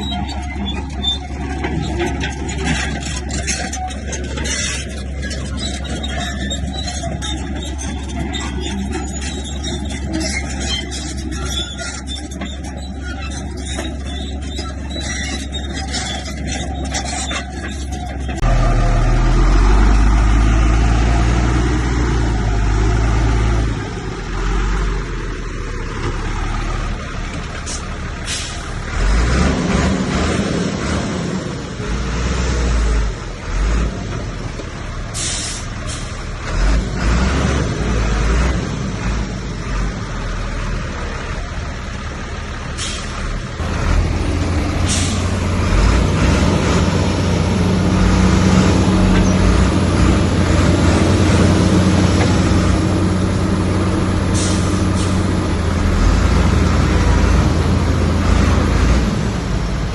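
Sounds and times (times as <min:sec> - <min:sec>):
bulldozer engine under load: 0:00.0 - 0:59.9.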